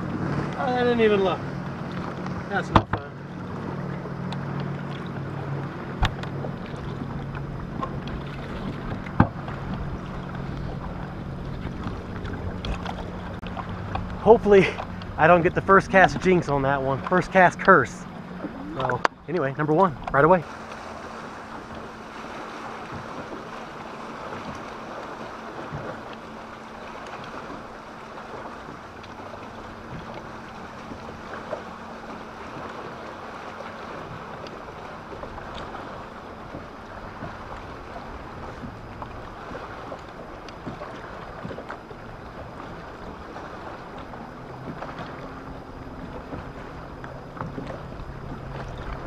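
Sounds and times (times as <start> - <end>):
waves lapping against boat hull: 0.0 - 49.0.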